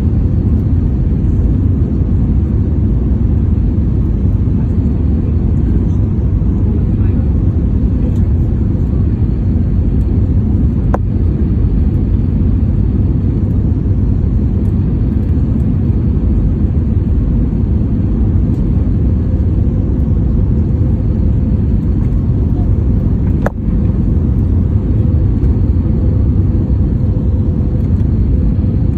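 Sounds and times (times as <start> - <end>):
airliner cabin engine rumble: 0.0 - 28.9.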